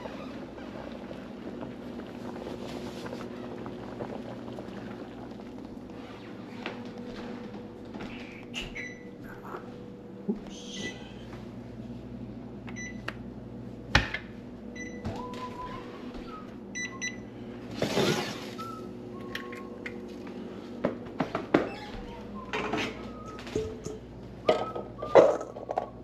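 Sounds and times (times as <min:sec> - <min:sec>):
appliance electrical hum: 0:00.0 - 0:26.0.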